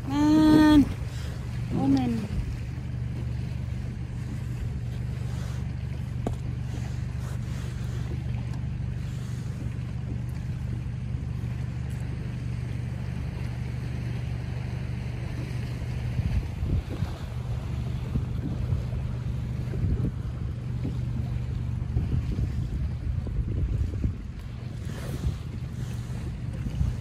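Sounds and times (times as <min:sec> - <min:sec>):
outboard motor humming: 0:00.0 - 0:27.0
water noise: 0:00.0 - 0:27.0
wind: 0:00.0 - 0:27.0.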